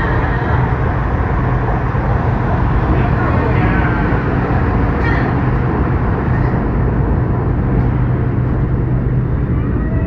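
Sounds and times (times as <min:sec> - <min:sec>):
constant low hum: 0:00.0 - 0:10.0
train rumbling inside carriage: 0:00.0 - 0:10.0.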